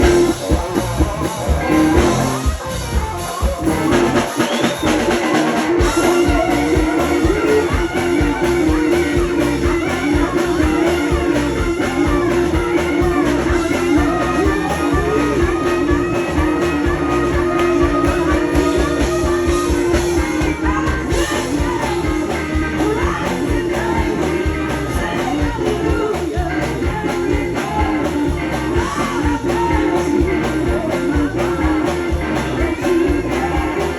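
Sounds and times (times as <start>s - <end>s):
drums: 0.0s - 33.9s
steel guitar: 0.0s - 33.9s
person singing: 3.6s - 33.9s.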